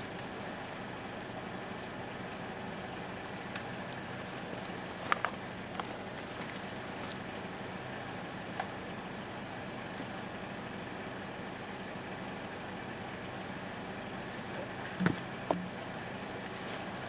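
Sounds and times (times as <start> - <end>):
chainsaw idling: 0.0 - 17.0.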